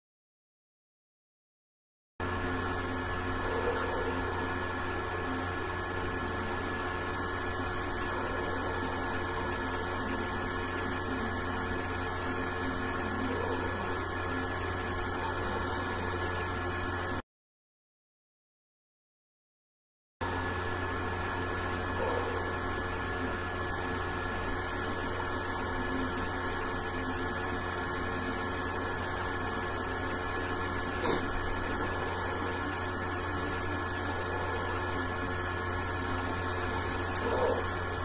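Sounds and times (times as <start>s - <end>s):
steady electrical hum: 2.2s - 17.2s, 20.2s - 38.0s.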